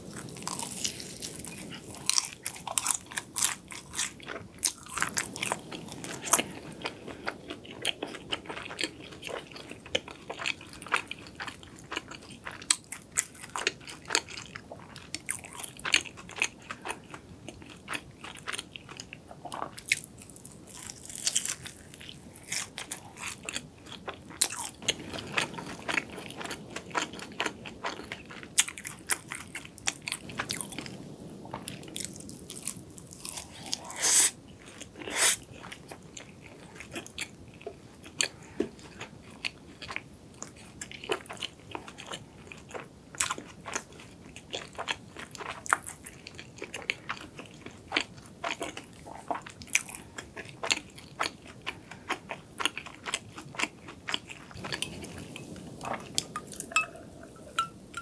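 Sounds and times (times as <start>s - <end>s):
pastry crunching while eating: 0.1s - 58.0s.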